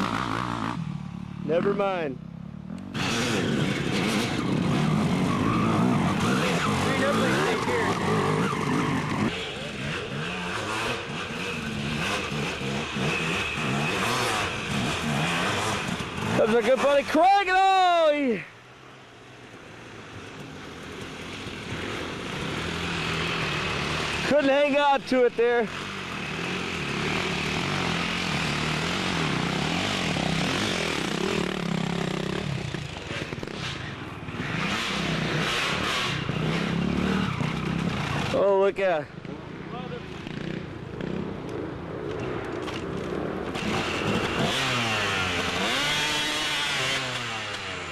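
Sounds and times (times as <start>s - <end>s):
dirt bike engines revving: 0.0s - 47.9s.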